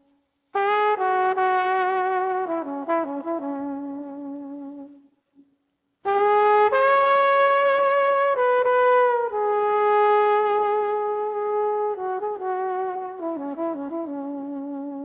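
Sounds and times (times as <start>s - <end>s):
slow brass-like melody: 0.0s - 5.1s, 6.0s - 15.0s.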